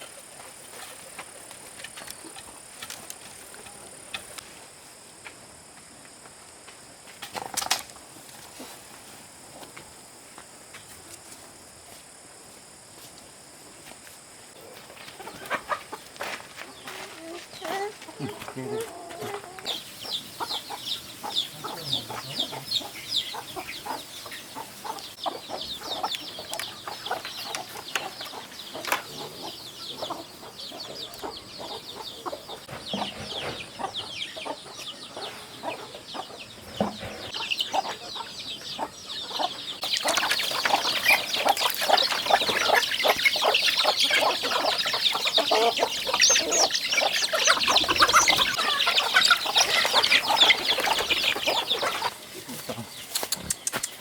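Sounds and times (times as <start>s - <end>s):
chickens clucking and peeping: 0.0s - 54.0s.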